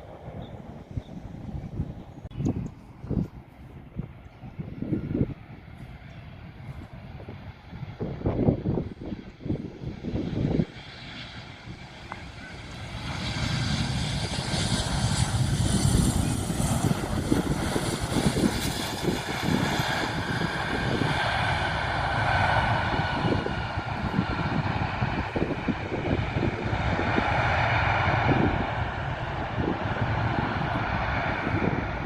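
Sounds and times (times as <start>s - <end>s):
airplane engines whine and rumble: 0.0s - 32.0s.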